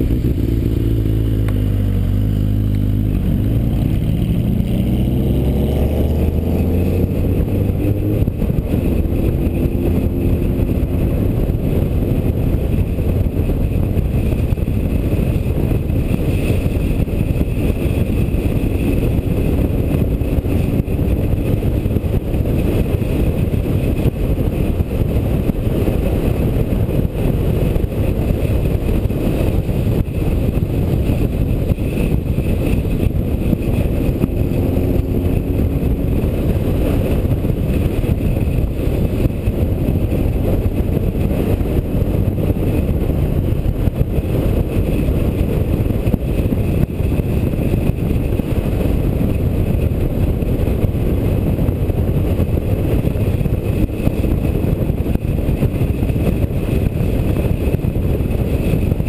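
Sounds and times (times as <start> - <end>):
motorcycle engine running steadily: 0.0 - 59.0
wind buffeting microphone: 0.0 - 59.0.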